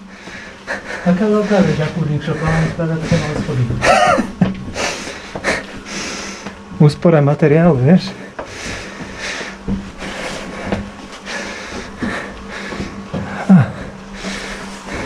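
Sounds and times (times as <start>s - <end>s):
heavy panting breaths: 0.0s - 6.8s, 8.1s - 15.0s.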